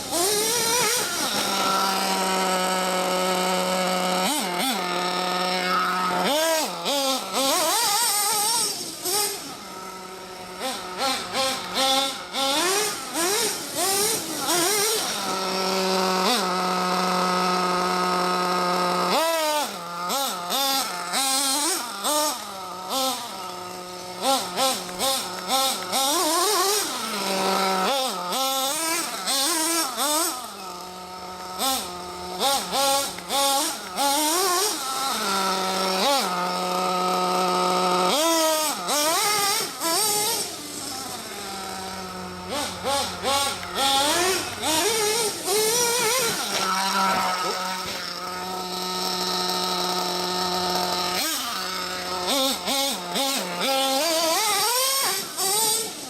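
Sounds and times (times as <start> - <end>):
rc truck nitro engine revving: 0.0 - 56.0.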